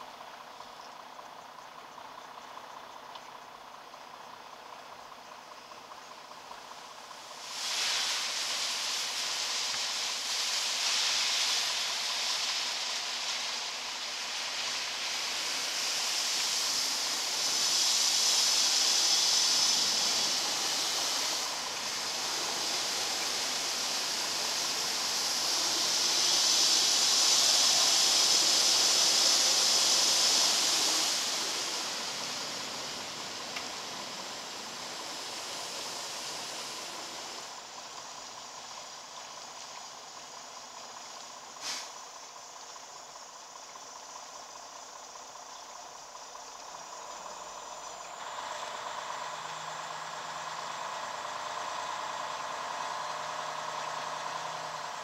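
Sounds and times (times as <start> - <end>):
water jets spraying on truck cab: 6.4 - 55.0.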